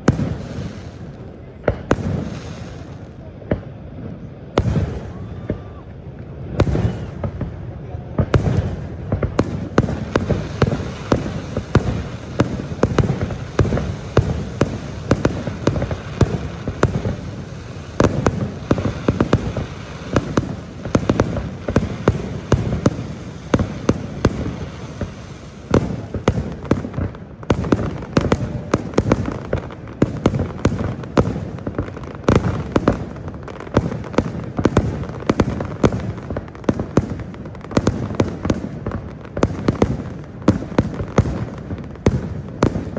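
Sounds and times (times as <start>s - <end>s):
fireworks banging: 0.0s - 42.9s.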